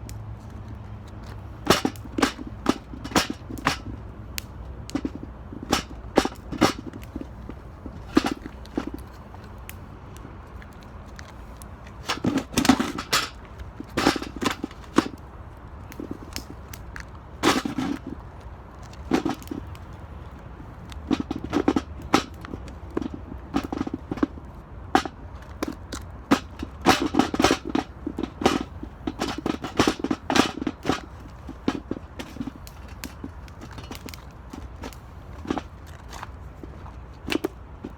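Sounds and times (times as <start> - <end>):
wood crackling and snapping: 1.0 - 37.9.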